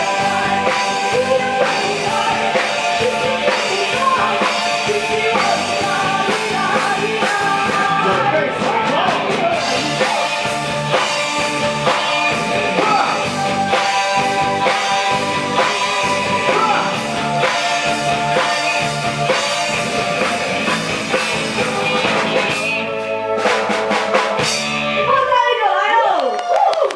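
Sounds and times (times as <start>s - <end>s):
rock band song with vocals: 0.0s - 26.9s.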